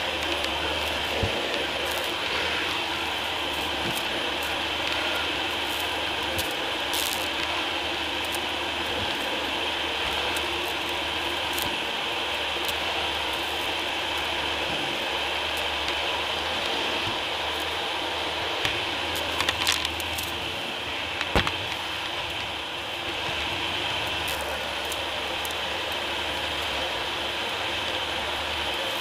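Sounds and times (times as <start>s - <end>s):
debris crackling in vacuum: 0.0s - 29.0s
vacuum cleaner running: 0.0s - 29.0s.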